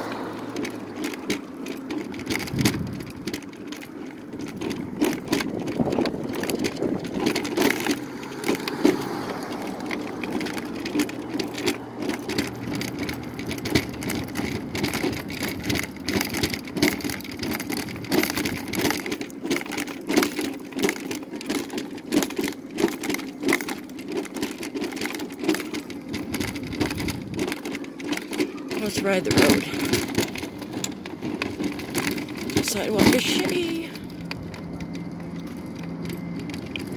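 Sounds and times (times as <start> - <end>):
mobility scooter motor hum: 0.0 - 36.9
wheels clunking and rattling: 0.0 - 36.9.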